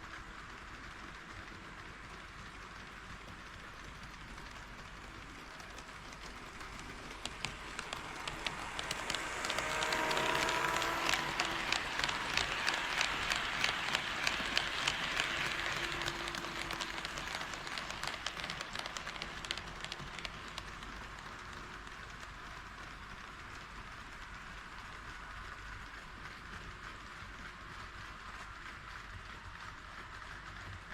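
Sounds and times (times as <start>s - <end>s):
model train wheels clicking: 0.0s - 30.9s.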